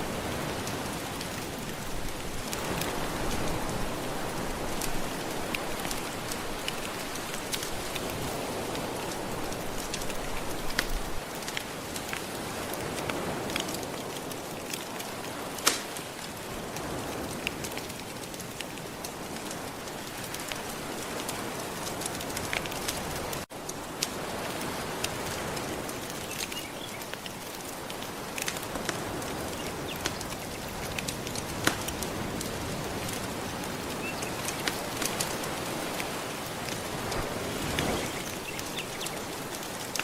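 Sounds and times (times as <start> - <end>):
gentle surf: 0.0 - 40.0
wood fire crackling: 0.0 - 40.0.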